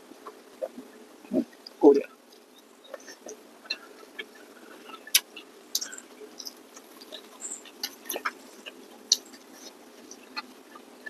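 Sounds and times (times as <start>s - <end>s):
people chewing with wet mouth sounds: 0.0s - 11.0s.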